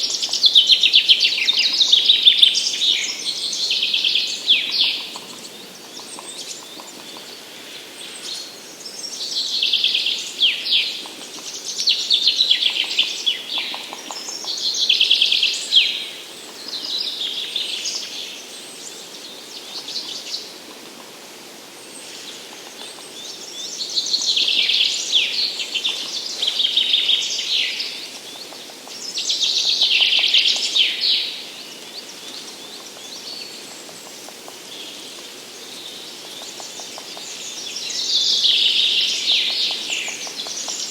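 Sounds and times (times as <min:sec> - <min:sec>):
songbird singing: 0:00.0 - 0:20.7, 0:21.8 - 0:40.9
faint forest background noise: 0:00.0 - 0:40.9.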